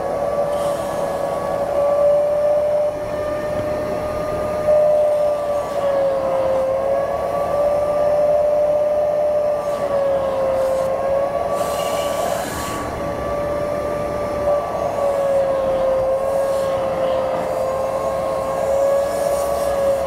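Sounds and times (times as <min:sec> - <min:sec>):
vacuum motor whining: 0:00.0 - 0:20.0.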